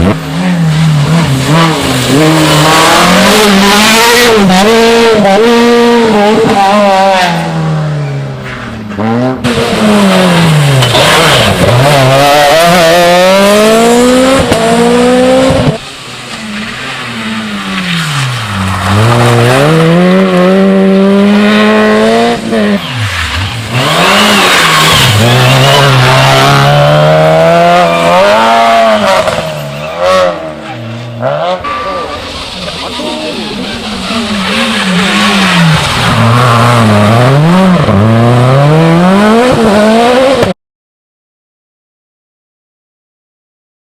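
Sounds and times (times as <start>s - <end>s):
rally car engines revving: 0.0s - 40.6s.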